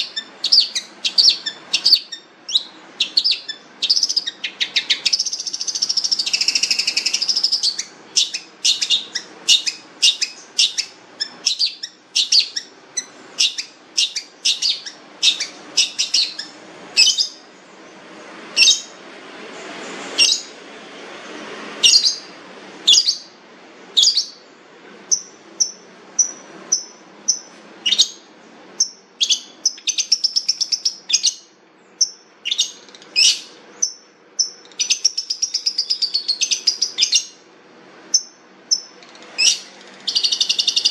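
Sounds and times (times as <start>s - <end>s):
bird chattering trills: 0.0s - 17.5s, 18.6s - 19.0s, 25.1s - 37.5s, 38.1s - 40.9s.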